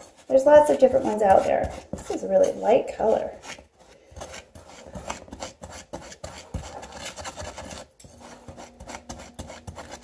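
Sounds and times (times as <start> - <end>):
spatula scraping powder in bowl: 0.0 - 10.0.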